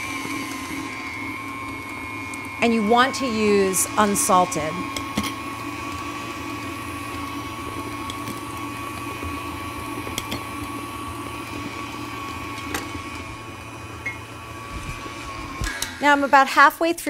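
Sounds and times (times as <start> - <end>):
stand mixer motor whine: 0.0 - 17.0.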